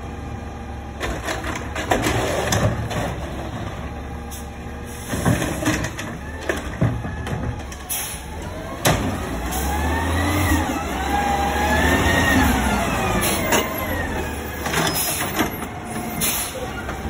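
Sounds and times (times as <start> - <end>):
garbage truck engine accelerating: 0.0 - 17.0.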